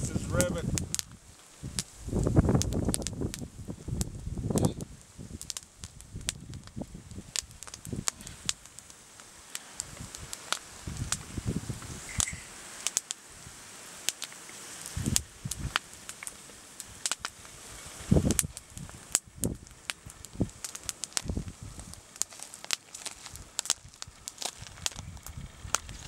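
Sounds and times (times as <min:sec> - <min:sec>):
sharp pops: 0:00.0 - 0:13.2, 0:14.0 - 0:26.0
wood fire crackling: 0:00.0 - 0:26.0.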